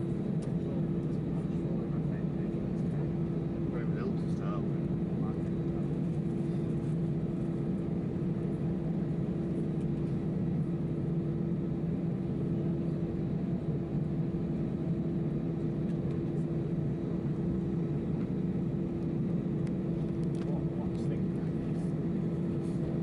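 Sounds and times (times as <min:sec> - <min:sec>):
airplane cabin hum: 0:00.0 - 0:23.0.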